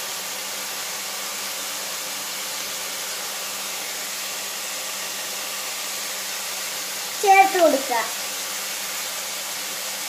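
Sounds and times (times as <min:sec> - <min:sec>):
vegetables hissing in a pot: 0:00.0 - 0:10.0.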